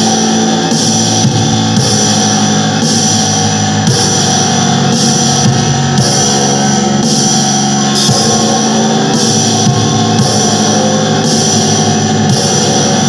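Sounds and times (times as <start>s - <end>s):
droning doom metal music: 0.0s - 13.0s.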